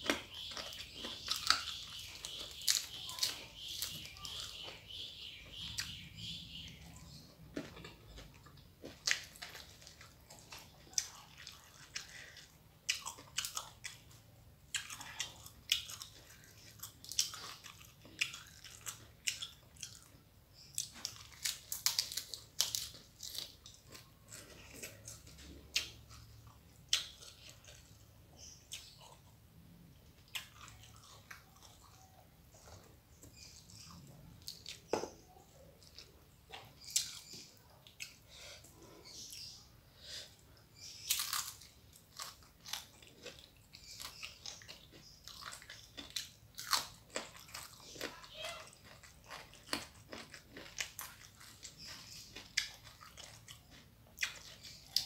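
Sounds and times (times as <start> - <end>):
person chewing and crunching food: 0.0 - 55.0.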